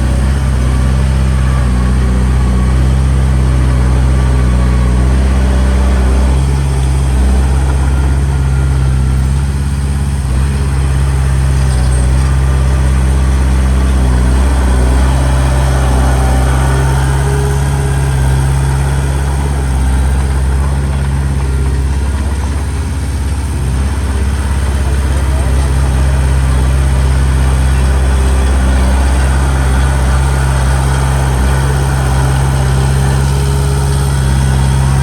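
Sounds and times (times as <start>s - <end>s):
heavy machinery diesel engine: 0.0s - 35.0s.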